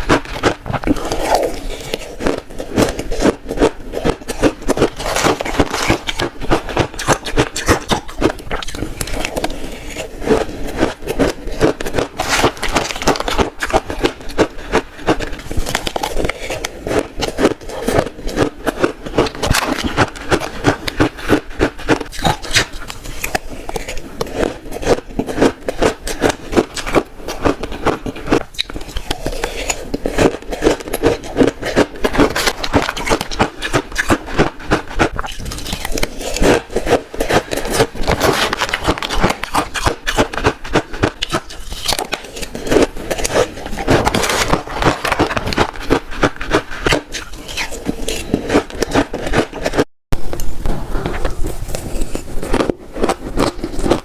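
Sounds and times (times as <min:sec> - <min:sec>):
shaved ice crunching in mouth: 0:00.0 - 0:49.8, 0:51.3 - 0:54.0.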